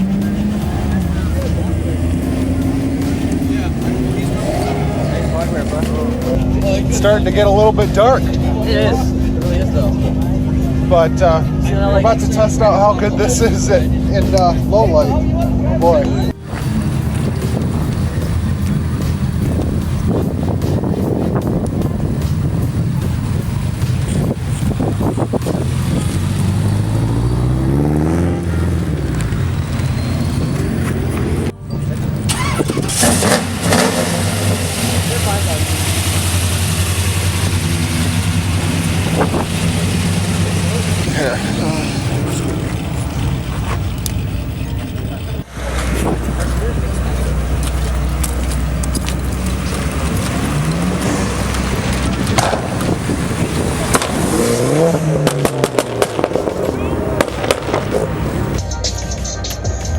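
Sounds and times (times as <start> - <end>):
car engine revving: 0.0 - 58.8.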